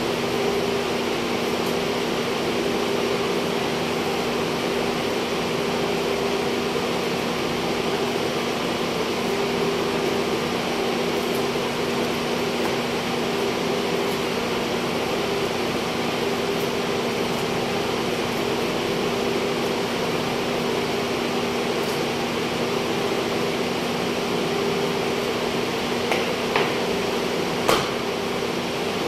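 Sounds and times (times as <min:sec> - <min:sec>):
refrigeration fans humming: 0:00.0 - 0:29.0.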